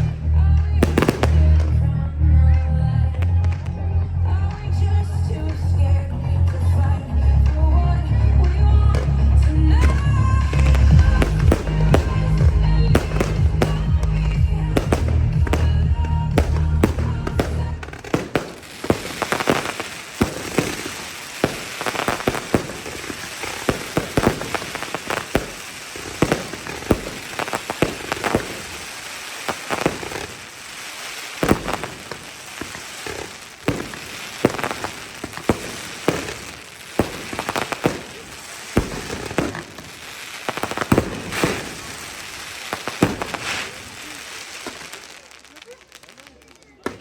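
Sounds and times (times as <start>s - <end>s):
fireworks crackling and popping: 0.0s - 47.0s
fireworks sharp bangs: 0.0s - 47.0s.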